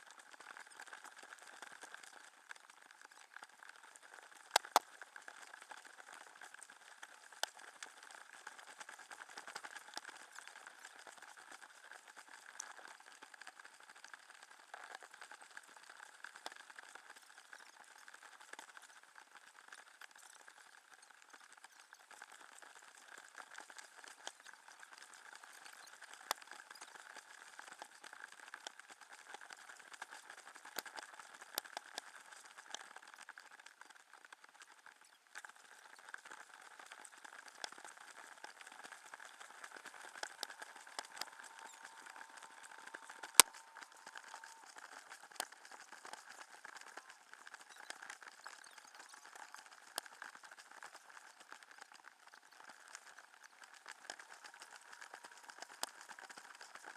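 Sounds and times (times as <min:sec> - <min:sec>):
small clicks and taps: 0:00.0 - 0:56.9.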